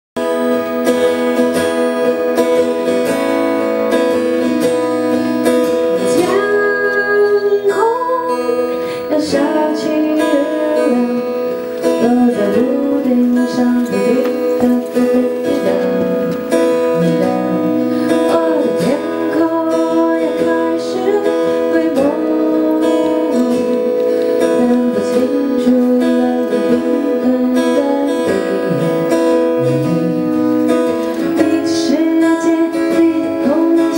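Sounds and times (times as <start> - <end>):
acoustic guitar fingerpicked: 0.2 - 33.9
woman singing slow melody: 3.5 - 33.9.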